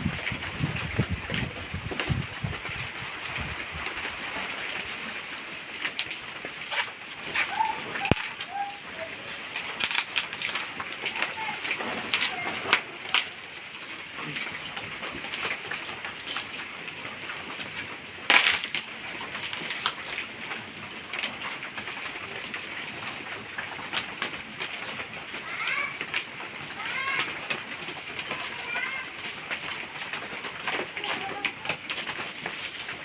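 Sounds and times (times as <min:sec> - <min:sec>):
items being handled and unpacked: 0:05.8 - 0:33.0.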